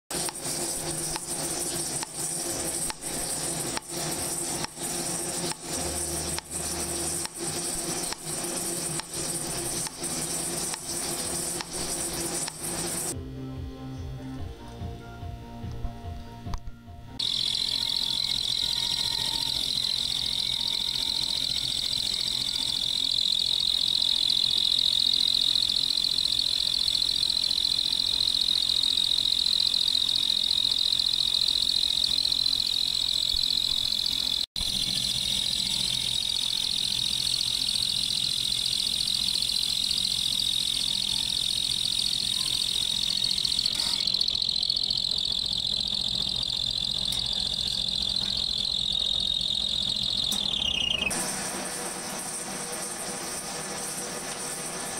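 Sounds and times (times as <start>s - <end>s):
band saw squealing: 0.1s - 13.2s, 17.2s - 54.9s.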